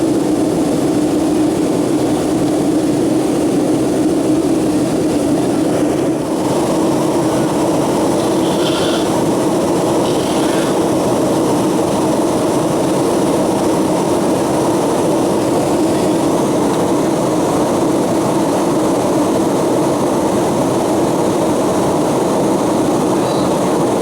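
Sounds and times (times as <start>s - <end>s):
airplane cabin engine and air noise: 0.0s - 24.0s.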